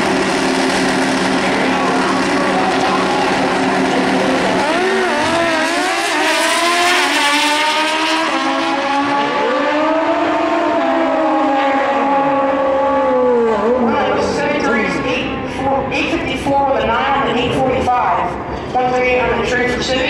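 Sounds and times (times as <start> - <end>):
motorcycle engines at full throttle: 0.0 - 18.5.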